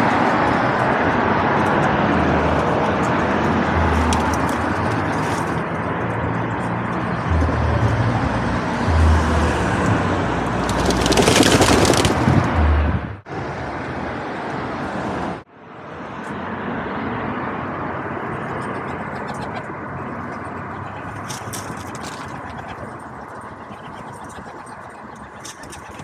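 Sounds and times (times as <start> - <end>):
road traffic noise: 0.0 - 25.8.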